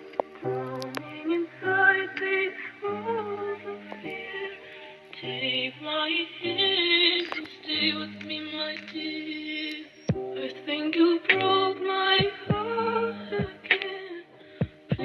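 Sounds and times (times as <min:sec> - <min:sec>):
processed singing voice: 0:00.0 - 0:15.0.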